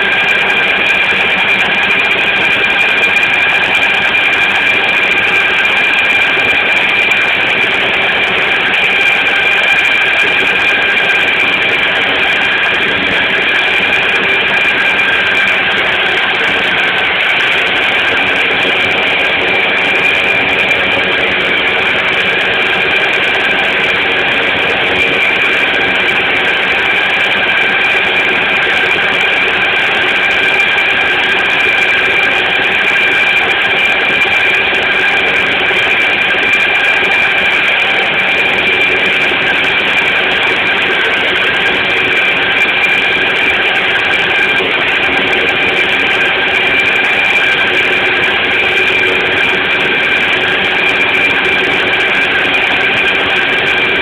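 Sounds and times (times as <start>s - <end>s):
high-pitched whine: 0.0s - 54.0s
riding mower engine running: 0.0s - 54.0s.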